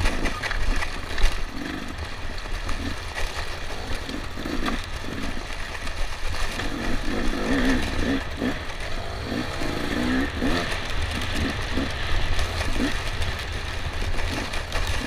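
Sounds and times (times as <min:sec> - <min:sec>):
dirt bike engine revving: 0:00.0 - 0:15.0
low rumble of wind: 0:00.0 - 0:15.0.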